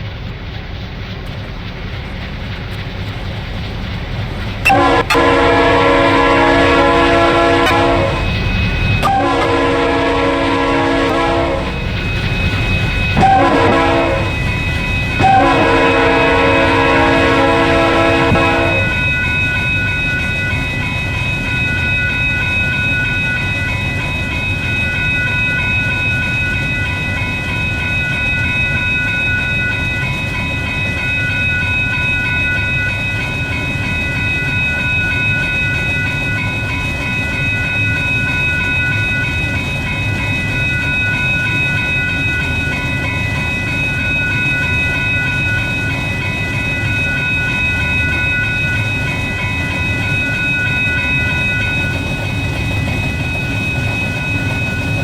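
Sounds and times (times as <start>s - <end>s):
train wheels rumbling on rails: 0.0s - 55.0s
high-pitched ringing: 0.8s - 55.0s.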